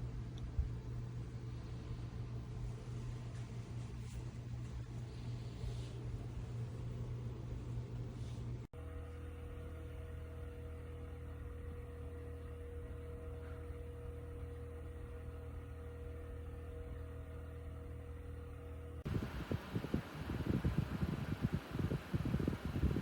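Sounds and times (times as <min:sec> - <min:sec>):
table fan running: 0:00.0 - 0:23.0.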